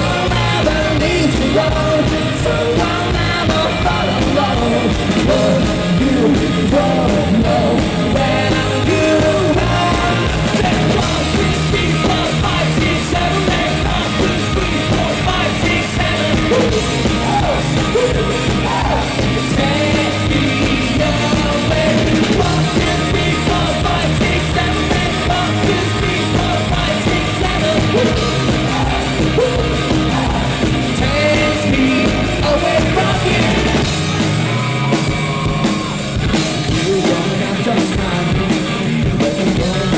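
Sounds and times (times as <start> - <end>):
live rock band playing: 0.0 - 39.9
person singing lead vocal: 0.0 - 39.9.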